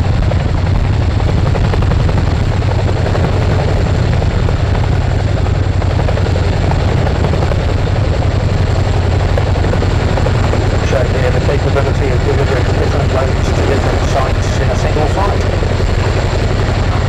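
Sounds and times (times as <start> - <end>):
helicopter rotor beat: 0.0 - 17.0
turbine noise: 0.0 - 17.0.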